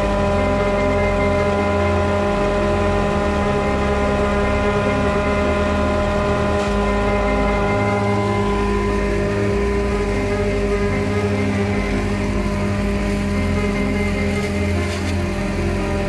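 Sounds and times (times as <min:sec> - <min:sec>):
shredder rotor running: 0:00.0 - 0:16.0.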